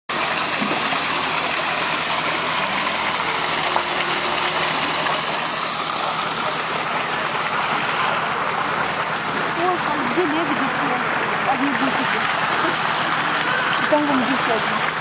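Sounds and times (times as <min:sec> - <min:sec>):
waterfall rushing and splashing: 0:00.1 - 0:15.0.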